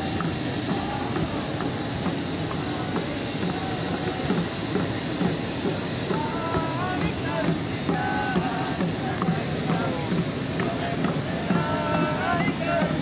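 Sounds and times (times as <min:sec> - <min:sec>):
parked jet airliner noise: 0:00.0 - 0:13.0
voices: 0:00.0 - 0:13.0.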